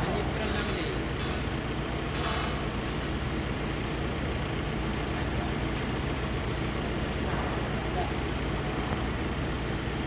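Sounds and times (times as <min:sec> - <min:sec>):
forklift engine idling: 0:00.0 - 0:10.0.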